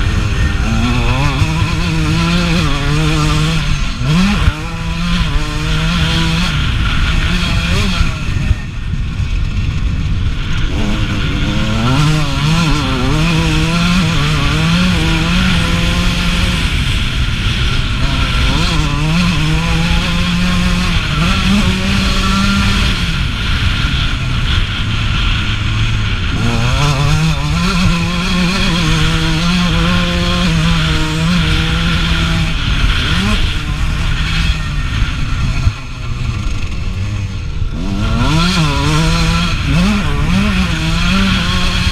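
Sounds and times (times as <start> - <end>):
motocross engine revving: 0.0 - 41.9.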